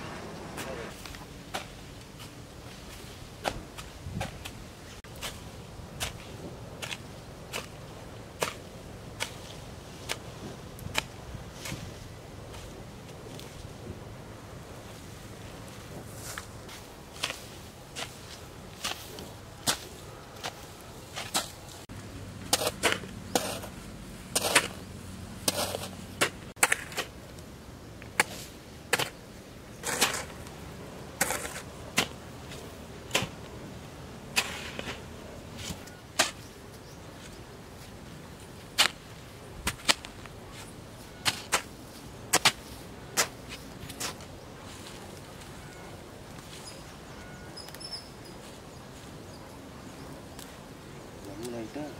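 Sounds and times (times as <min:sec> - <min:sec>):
hoe chopping and scraping soil: 0:00.0 - 0:13.8, 0:15.8 - 0:37.4, 0:38.0 - 0:46.8.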